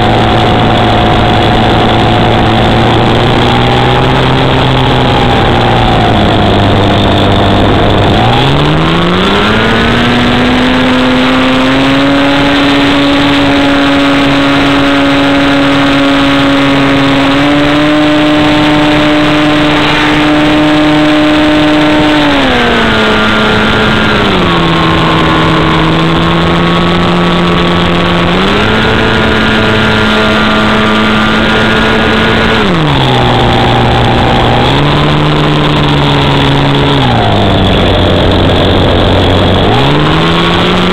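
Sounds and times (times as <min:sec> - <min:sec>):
model airplane engine and propeller: 0:00.0 - 0:40.9.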